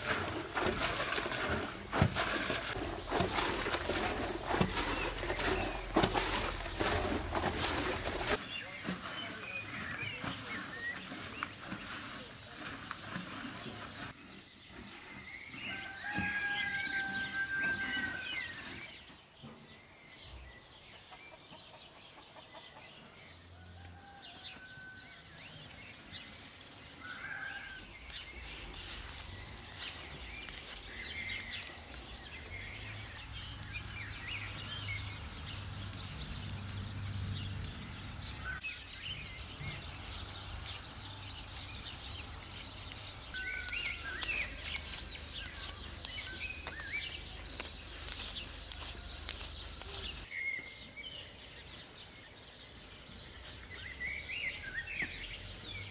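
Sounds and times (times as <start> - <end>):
small birds chirping: 2.7 - 17.1, 17.8 - 55.9.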